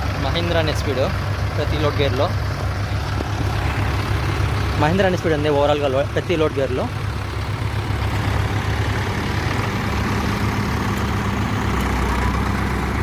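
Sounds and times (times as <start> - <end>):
higher engine note: 0.0 - 13.0
tractor diesel engines droning: 0.0 - 13.0.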